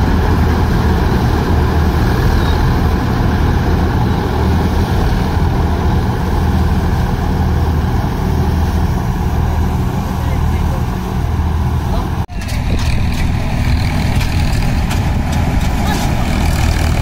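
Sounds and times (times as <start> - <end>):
combine harvester engine drone: 0.0 - 17.0
cutting and threshing machinery: 0.0 - 17.0.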